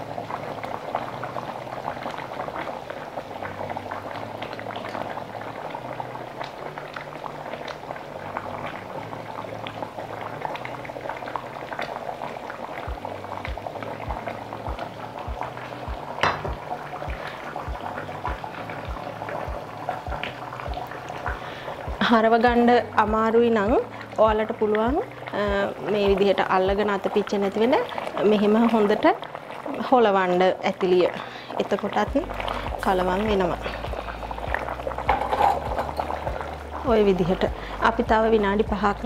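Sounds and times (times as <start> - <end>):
curry bubbling in pot: 0.0 - 39.0.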